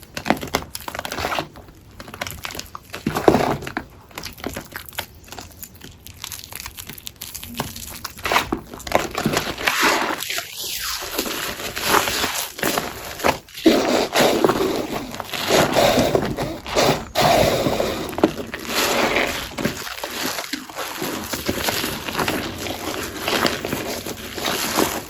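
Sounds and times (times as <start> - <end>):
chalky sponge crunching: 0.0 - 25.0.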